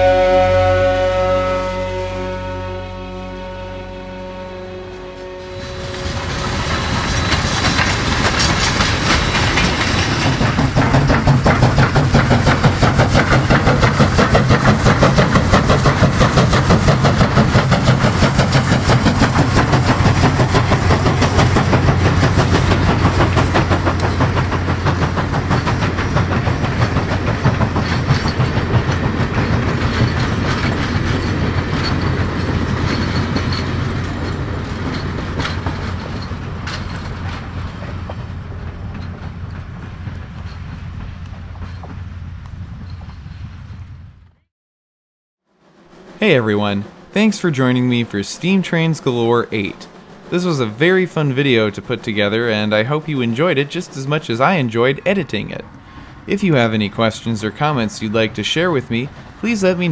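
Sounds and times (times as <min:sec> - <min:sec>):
train wheels clicking over rail joints: 0:05.7 - 0:44.4, 0:45.7 - 0:59.9.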